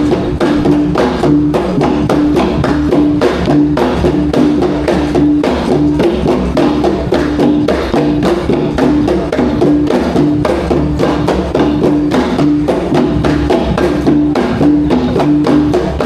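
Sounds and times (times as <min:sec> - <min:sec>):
drums beating quick rhythm: 0:00.0 - 0:16.0.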